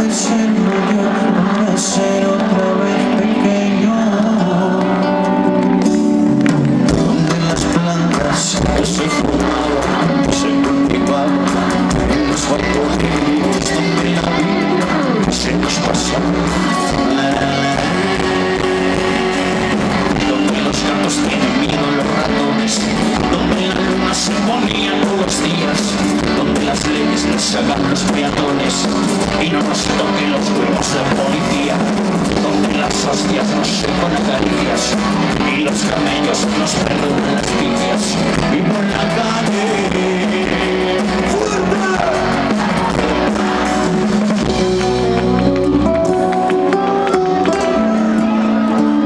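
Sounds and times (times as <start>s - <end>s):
bass guitar: 0.0s - 49.0s
electric guitars: 0.0s - 49.0s
drum kit: 5.6s - 49.0s.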